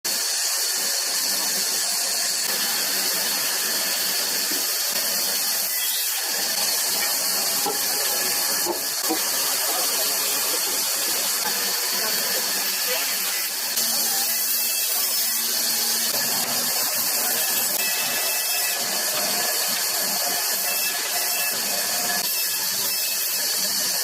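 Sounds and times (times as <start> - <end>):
steady loud hiss: 0.1 - 22.3.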